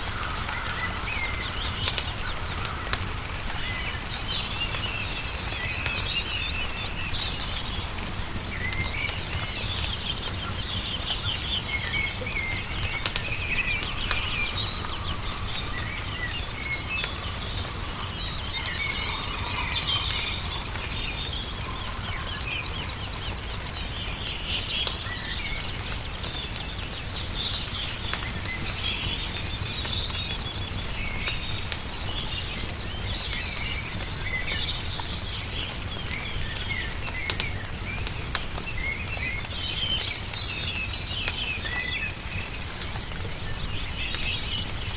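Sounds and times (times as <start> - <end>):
songbirds chirping and singing: 0.0 - 44.9
wood fire crackling: 0.0 - 44.9.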